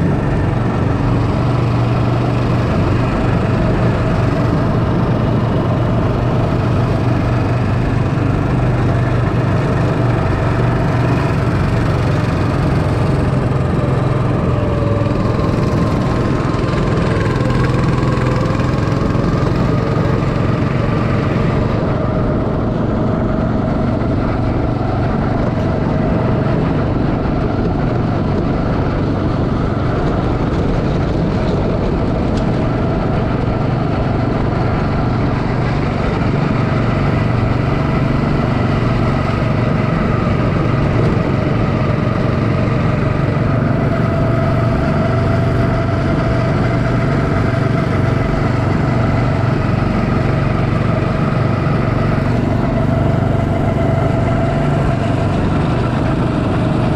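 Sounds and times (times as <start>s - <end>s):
go-kart engine droning: 0.0s - 56.9s
higher engine noise: 0.0s - 56.9s.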